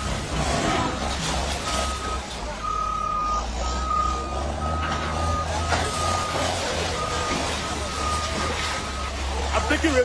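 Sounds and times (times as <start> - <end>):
engine rumble: 0.0 - 10.0
excavator warning alarm beeping: 0.0 - 10.0.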